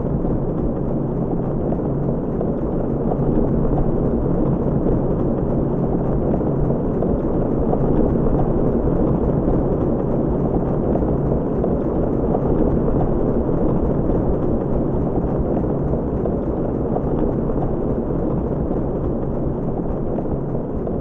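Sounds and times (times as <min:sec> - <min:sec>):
propeller churning underwater: 0:00.0 - 0:21.0.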